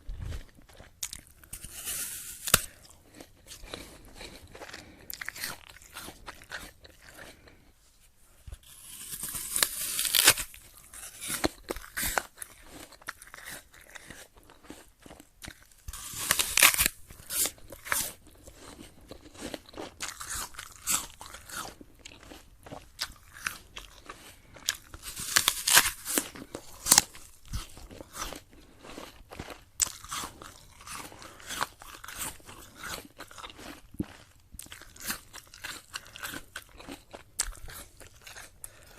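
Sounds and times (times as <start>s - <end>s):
apple chewing crunches: 0.1s - 7.8s, 8.5s - 38.9s
crunching bites of apple: 0.2s - 7.7s, 8.5s - 38.9s.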